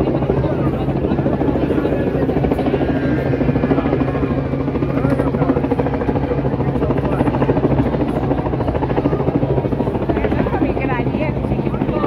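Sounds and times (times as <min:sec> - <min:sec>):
crowd talking: 0:00.0 - 0:12.0
helicopter rotor chopping: 0:00.0 - 0:12.0.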